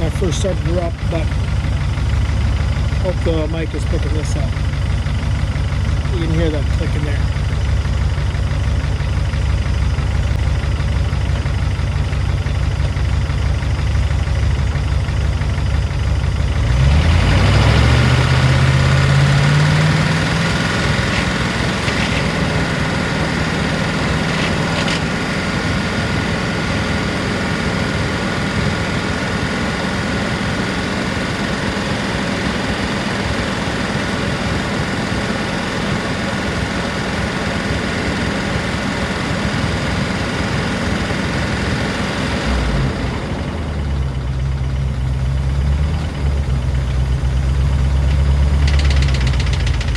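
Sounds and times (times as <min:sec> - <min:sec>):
car engine idling: 0:00.0 - 0:49.9
engine lifters ticking: 0:00.0 - 0:49.9.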